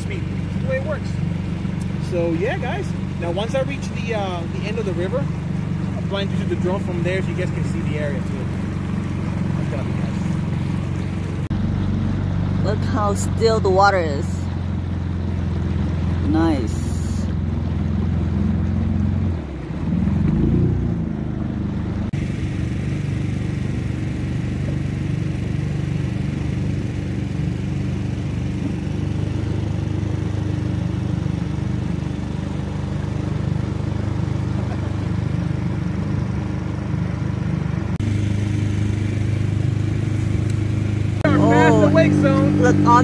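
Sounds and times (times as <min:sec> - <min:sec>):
boat motor idling: 0:00.0 - 0:20.2, 0:21.7 - 0:43.0.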